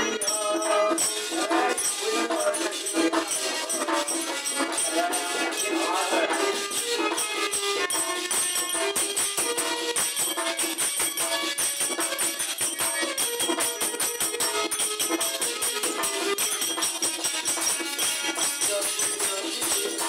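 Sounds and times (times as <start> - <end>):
harmonium chords: 0.0 - 20.0
jingling percussion: 0.0 - 20.0.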